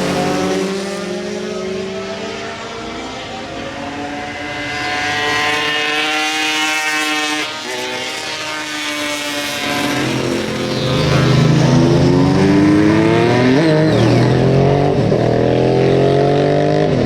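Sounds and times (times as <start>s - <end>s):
racing motorcycle engine accelerating: 0.0s - 17.0s.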